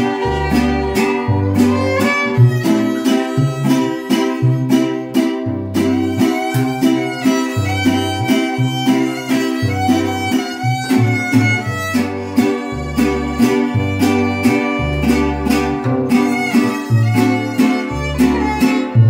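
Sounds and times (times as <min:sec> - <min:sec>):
plucked bass line: 0:00.0 - 0:19.0
strummed string chords: 0:00.0 - 0:19.0
violin melody: 0:00.0 - 0:19.0.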